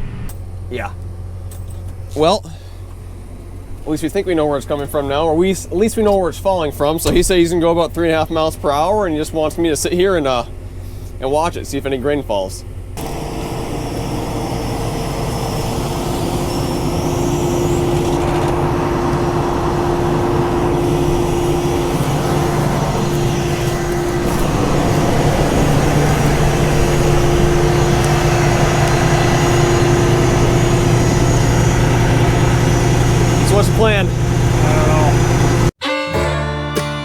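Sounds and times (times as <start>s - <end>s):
combine harvester running: 0.0s - 35.7s.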